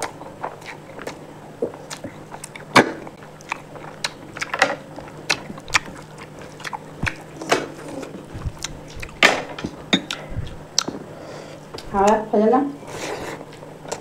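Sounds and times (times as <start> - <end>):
person chewing and crunching food: 0.0 - 12.2.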